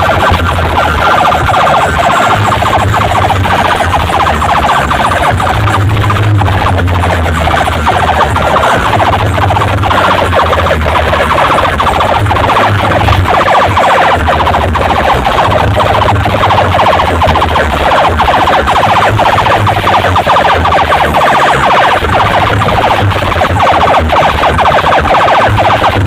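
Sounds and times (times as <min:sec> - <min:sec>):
bass line: 0:00.0 - 0:26.0
pulsing siren-like electronic effect: 0:00.0 - 0:26.0.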